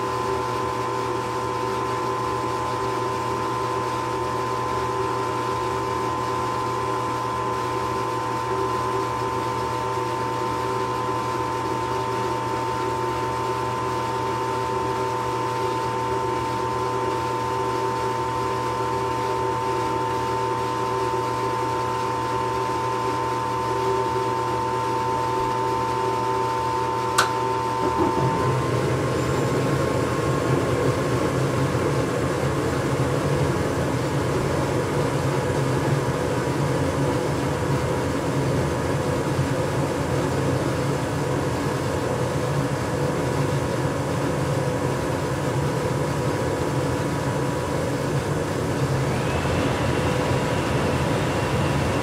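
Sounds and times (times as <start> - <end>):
furnace humming: 0.0 - 52.0.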